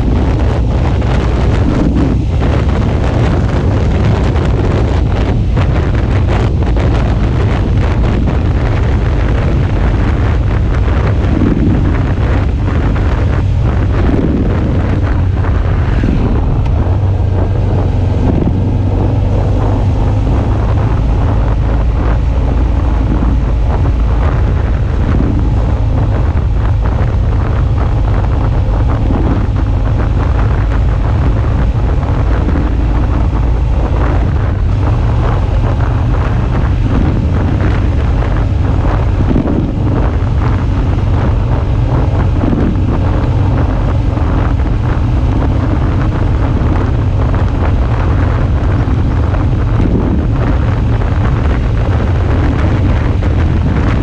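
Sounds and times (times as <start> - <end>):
motorcycle engine low hum: 0.0 - 54.0
wind buffeting microphone: 0.0 - 54.0.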